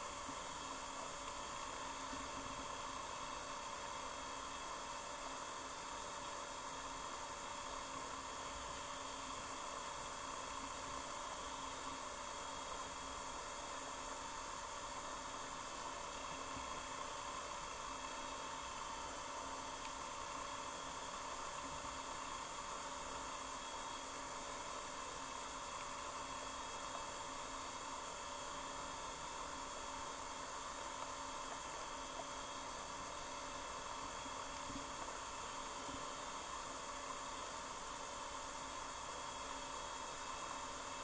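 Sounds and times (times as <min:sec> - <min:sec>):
faint constant hum: 0:00.0 - 0:41.0
underwater hiss of flowing stream: 0:00.0 - 0:41.0.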